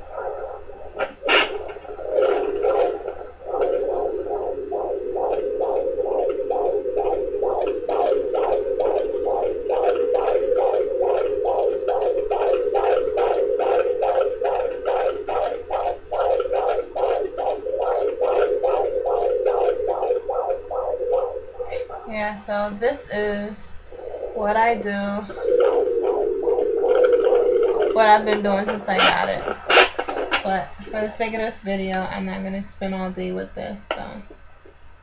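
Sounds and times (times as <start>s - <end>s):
fetal heartbeat on doppler: 0.0s - 34.4s.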